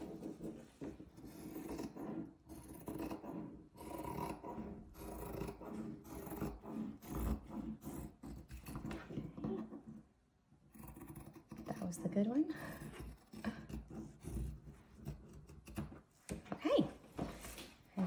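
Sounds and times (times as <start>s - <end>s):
scissors cutting fabric: 0.0s - 16.5s.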